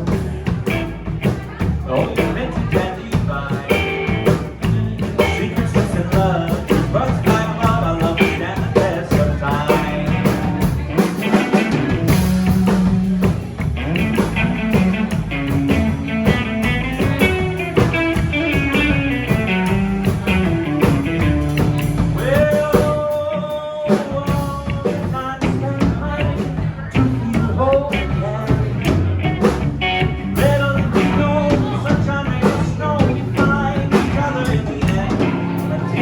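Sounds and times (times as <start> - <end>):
lead guitar melody: 0.0 - 5.6, 6.2 - 22.5, 25.9 - 36.0
bass guitar: 0.0 - 36.0
steady drum beat: 0.0 - 36.0.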